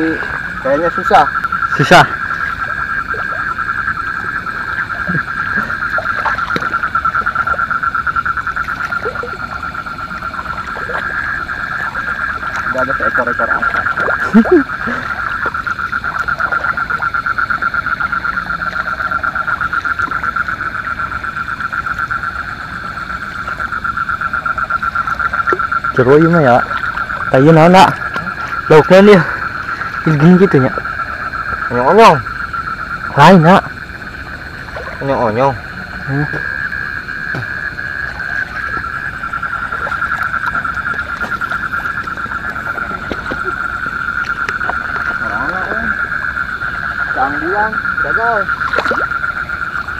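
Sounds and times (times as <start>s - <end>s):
frogs trilling in chorus: 0.0s - 49.9s
water splashes: 0.0s - 49.9s.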